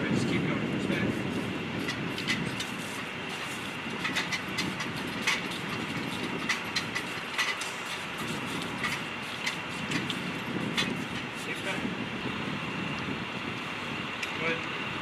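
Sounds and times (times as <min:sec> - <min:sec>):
steady machinery noise: 0:00.0 - 0:15.0.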